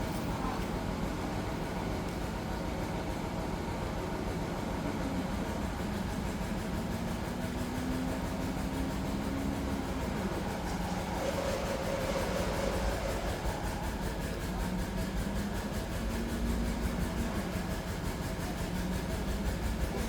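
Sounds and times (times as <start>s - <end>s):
engine running with low rumble: 0.0s - 20.0s.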